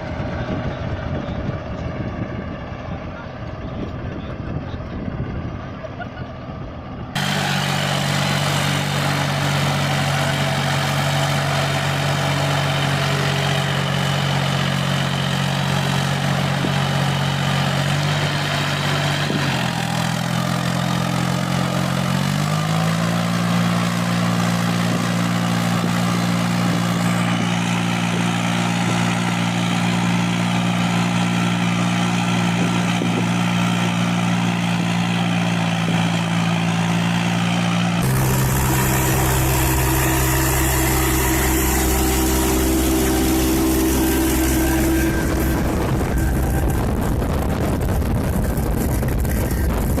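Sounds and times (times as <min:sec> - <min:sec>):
tractor engine running: 0:00.0 - 0:50.0.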